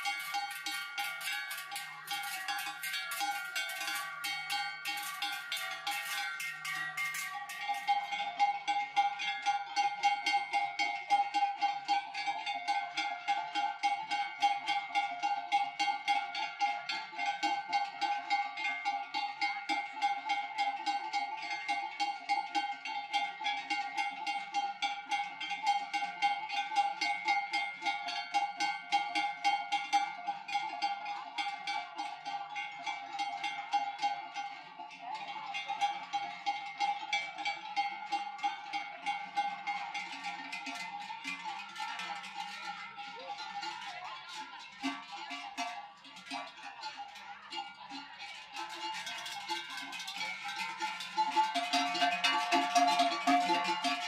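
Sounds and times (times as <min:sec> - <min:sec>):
cowbells clanging: 0:00.0 - 0:54.0.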